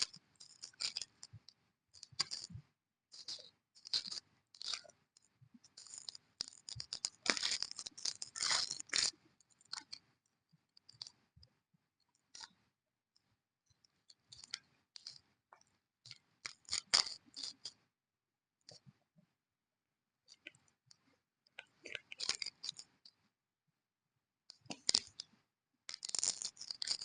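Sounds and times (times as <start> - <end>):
irregular clicks and scrapes: 0.0 - 17.9, 18.7 - 19.0, 20.3 - 23.3, 24.5 - 27.0.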